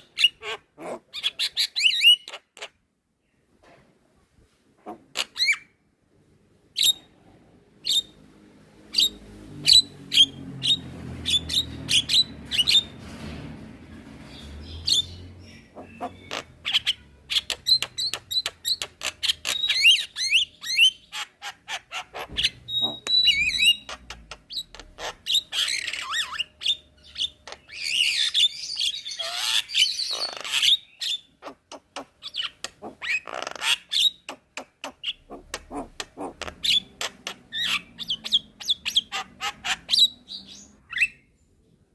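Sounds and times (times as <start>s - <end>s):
harsh rasping bird calls: 0.0s - 2.8s, 8.9s - 13.0s, 14.2s - 41.3s.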